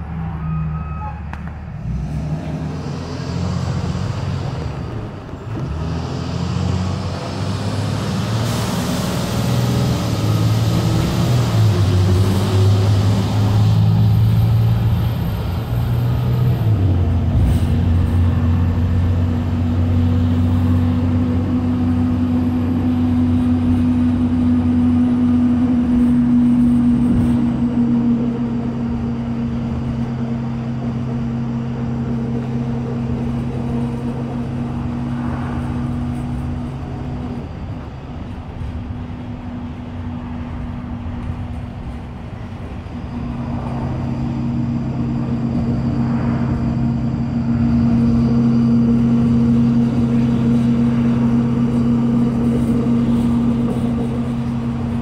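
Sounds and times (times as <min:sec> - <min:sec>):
diesel bus engine pulling away: 0:00.0 - 0:55.0.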